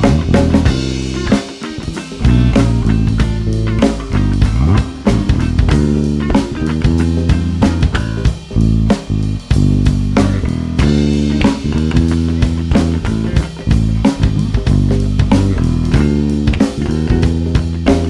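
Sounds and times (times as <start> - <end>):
drum kit steady beat: 0.0 - 18.0
electric bass line: 0.0 - 18.0
electric guitar: 0.0 - 18.0.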